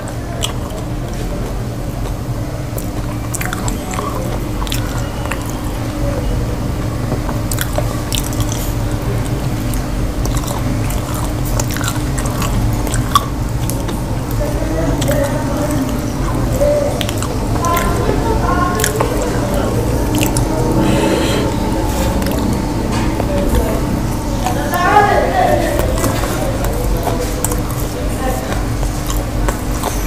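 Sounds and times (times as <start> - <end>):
steady low hum: 0.0 - 30.0
man chewing food: 0.3 - 6.1, 6.8 - 30.0.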